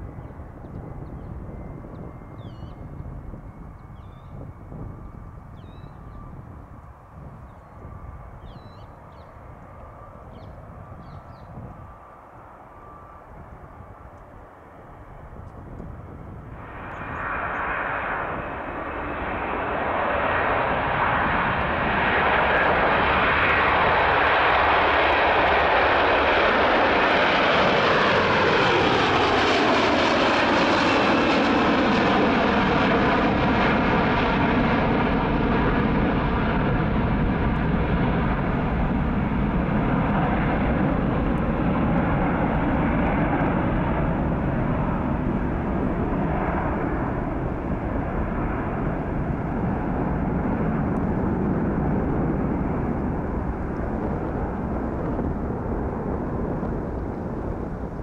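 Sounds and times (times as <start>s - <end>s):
jet engines roaring at take-off: 0.0s - 58.0s.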